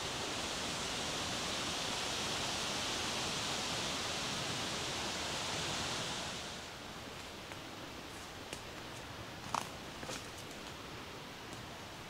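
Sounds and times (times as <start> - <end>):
woodland ambience hiss: 0.0 - 12.0.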